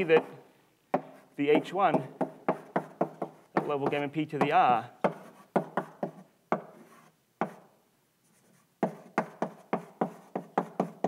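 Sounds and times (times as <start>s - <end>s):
chalk tapping on blackboard: 0.0s - 7.7s, 8.3s - 11.0s.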